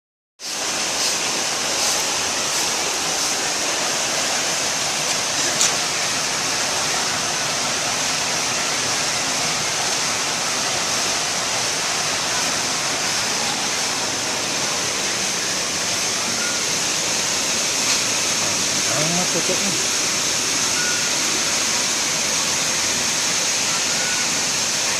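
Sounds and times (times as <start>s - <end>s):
steady rushing noise: 0.4s - 24.2s.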